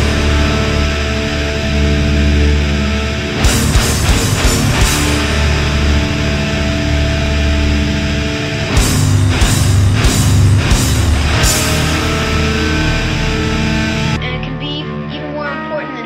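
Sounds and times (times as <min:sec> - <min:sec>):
black metal music: 0:00.0 - 0:16.0.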